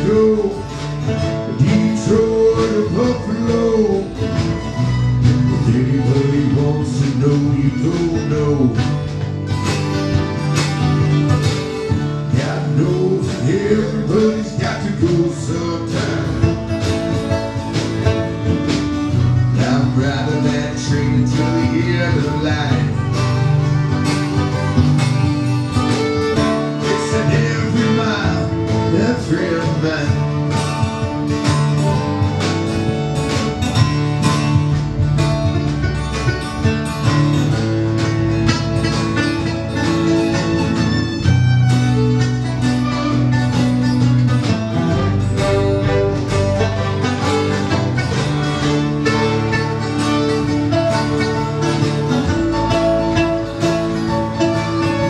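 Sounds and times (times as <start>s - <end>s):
fiddle: 0.0s - 55.0s
strummed acoustic guitars: 0.0s - 55.0s.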